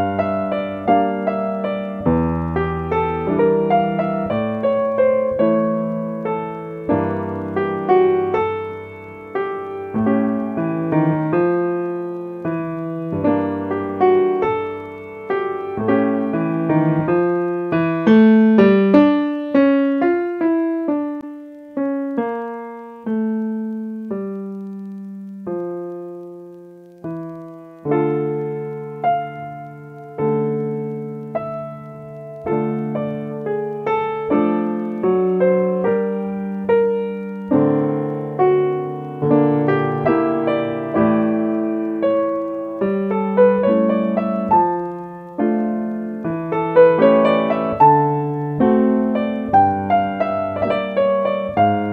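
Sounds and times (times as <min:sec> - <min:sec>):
solo piano: 0:00.0 - 0:51.9.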